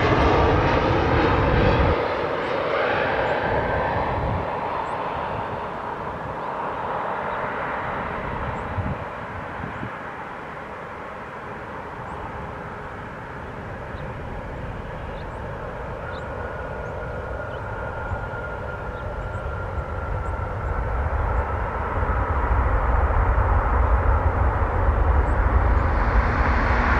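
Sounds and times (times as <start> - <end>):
high engine whine: 0.0 - 26.9
jet airliner rumble: 0.0 - 26.9.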